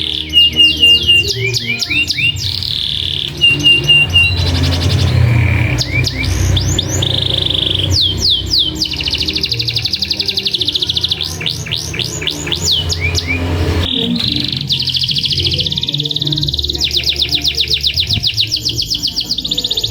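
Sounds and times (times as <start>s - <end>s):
steady low hum: 0.0s - 19.8s
canary singing: 0.0s - 19.9s.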